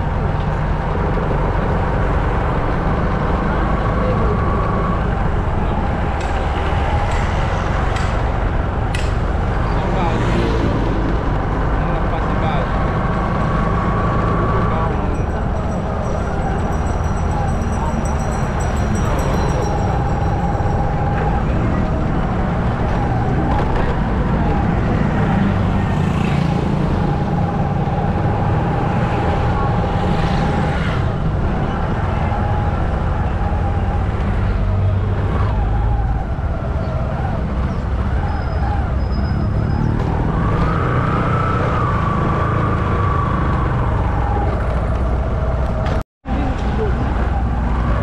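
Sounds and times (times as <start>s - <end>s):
passing street traffic: 0.0s - 48.0s
vehicle engine and road noise: 0.0s - 48.0s.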